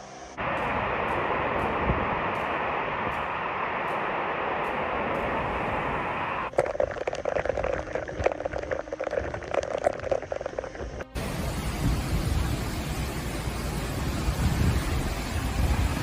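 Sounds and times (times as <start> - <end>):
wind and rain rushing: 0.4 - 16.0.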